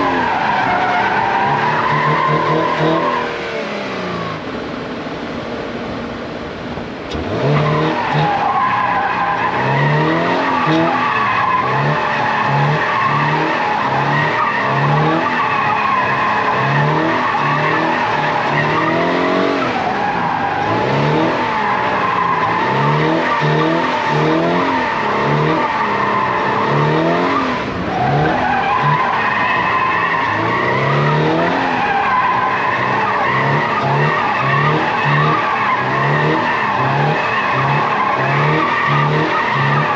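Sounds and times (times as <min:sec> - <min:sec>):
car engine revving: 0:00.0 - 0:39.9
tyres squealing: 0:07.2 - 0:39.9.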